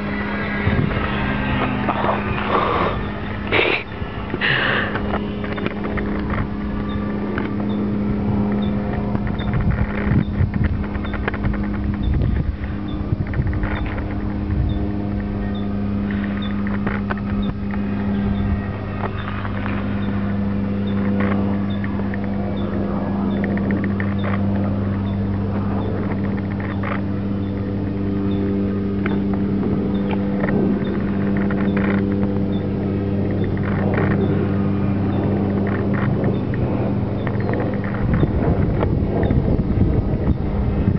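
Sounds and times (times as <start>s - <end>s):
model airplane motor droning: 0.0s - 40.9s.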